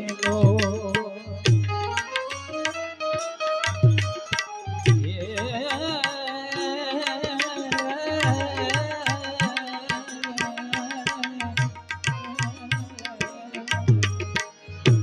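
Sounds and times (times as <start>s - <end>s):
tabla playing rhythm: 0.0s - 15.0s.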